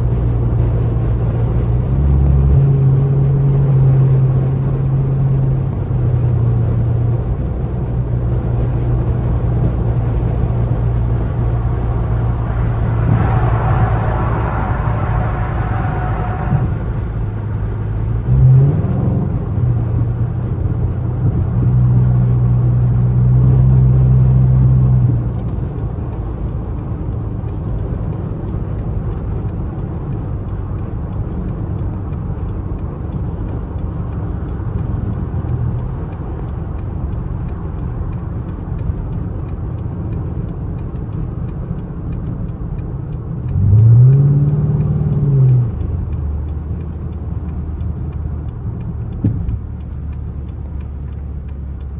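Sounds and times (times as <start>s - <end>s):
car exhaust rumbling and revving: 0.0s - 51.9s.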